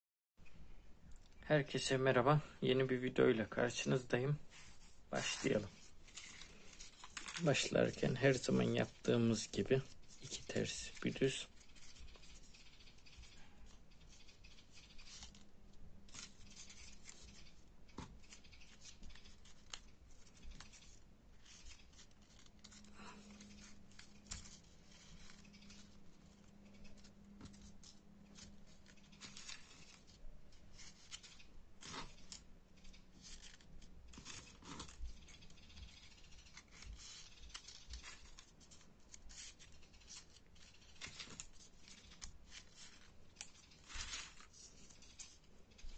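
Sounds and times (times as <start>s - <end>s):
paper rustling and clicking: 4.5s - 45.9s.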